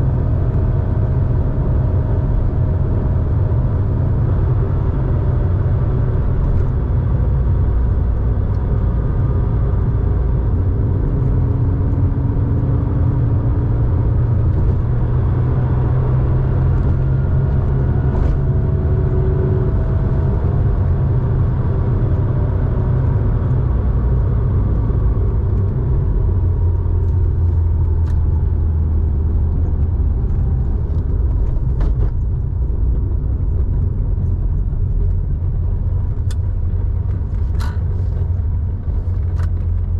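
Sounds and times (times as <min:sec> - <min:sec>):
deep car exhaust drone: 0:00.0 - 0:39.9.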